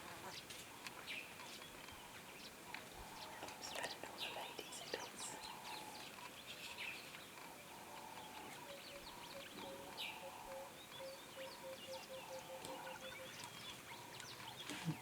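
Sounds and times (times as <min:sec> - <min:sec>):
birds chirping and calling: 0:01.0 - 0:15.0.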